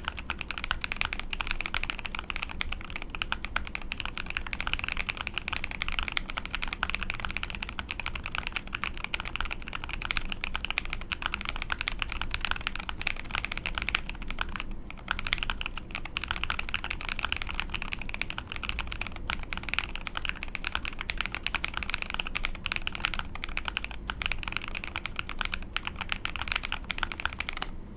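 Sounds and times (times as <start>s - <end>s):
typing on mechanical keyboard: 0.0s - 27.7s.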